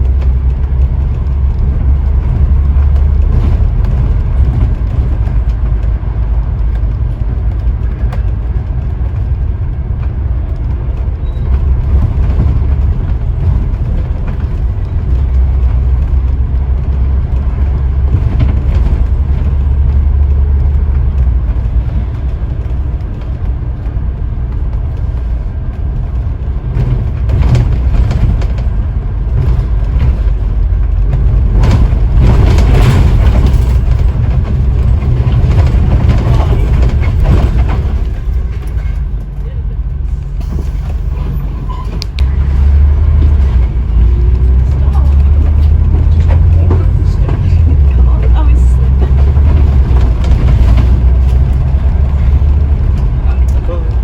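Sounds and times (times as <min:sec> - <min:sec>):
bus engine drone: 0:00.0 - 0:54.0
road and body noise: 0:00.0 - 0:54.0.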